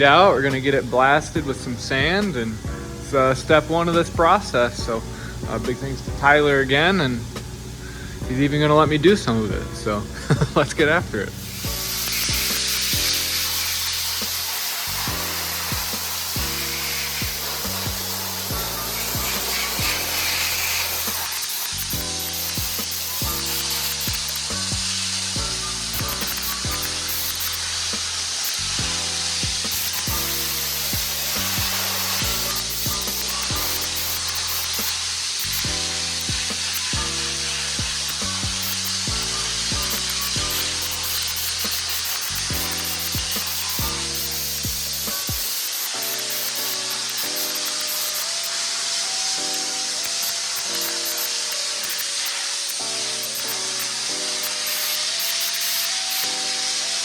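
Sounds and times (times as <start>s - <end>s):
background music with deep bass: 0.0s - 57.0s
sandblasting hiss: 0.0s - 57.0s.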